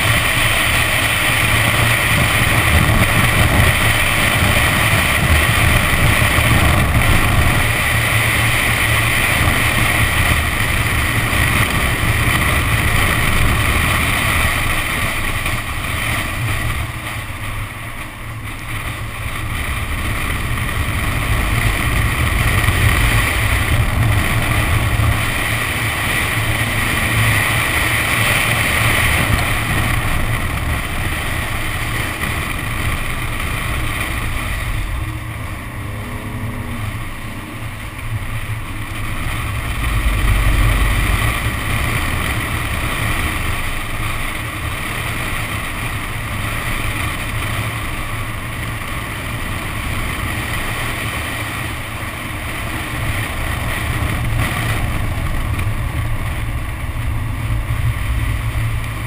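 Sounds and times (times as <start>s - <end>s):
car engine running: 0.0s - 59.0s
wind buffeting camera: 0.0s - 59.0s.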